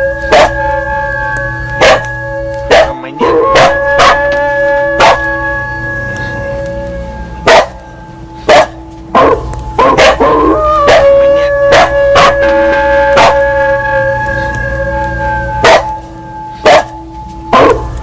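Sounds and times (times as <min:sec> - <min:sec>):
wavering cry: 0:00.0 - 0:08.6, 0:09.2 - 0:18.0
temple bell ringing: 0:00.0 - 0:18.0.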